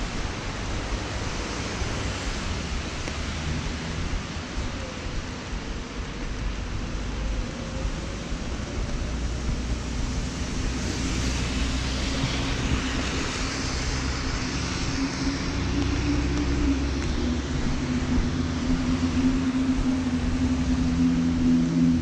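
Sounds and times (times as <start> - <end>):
rain on an umbrella: 0.0 - 22.0
tyres hissing on wet road: 0.0 - 22.0
vehicle engine humming: 0.0 - 22.0.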